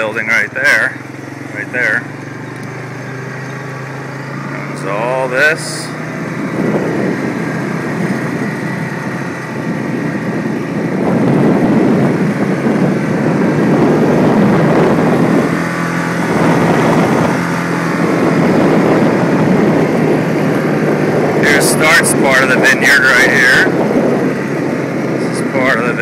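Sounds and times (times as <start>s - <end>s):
quad engine running: 0.0s - 26.0s.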